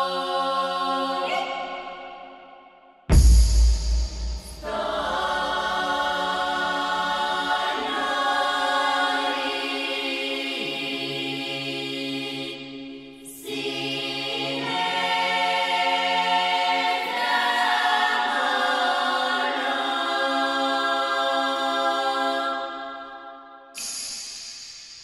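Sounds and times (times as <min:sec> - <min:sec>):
choir singing held chords: 0:00.0 - 0:24.2.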